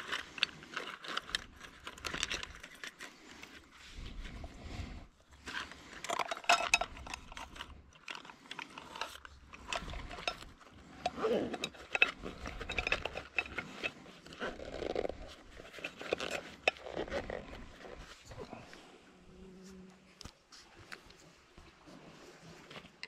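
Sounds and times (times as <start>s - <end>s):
leather pouch rustling: 0.0s - 19.1s.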